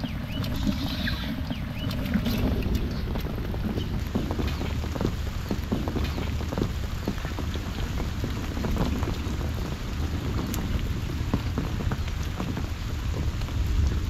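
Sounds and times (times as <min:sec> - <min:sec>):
low steady rumble: 0:00.0 - 0:14.0
rain drops on water: 0:00.0 - 0:14.0.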